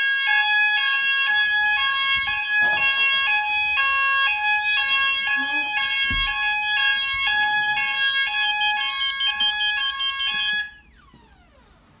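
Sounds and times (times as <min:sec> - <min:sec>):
two-tone electronic fire alarm: 0:00.0 - 0:11.6.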